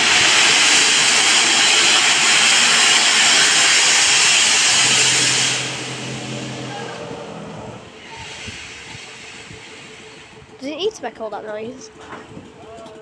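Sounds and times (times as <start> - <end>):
steam locomotive venting steam: 0.0 - 10.8.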